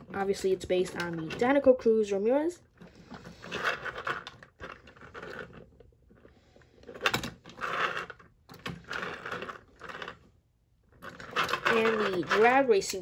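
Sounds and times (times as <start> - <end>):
toy car wheels rolling on plastic: 0.0 - 13.0.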